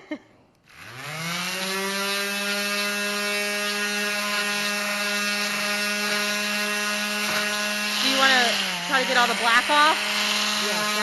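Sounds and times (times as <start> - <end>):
electric sander whining: 0.6 - 11.0.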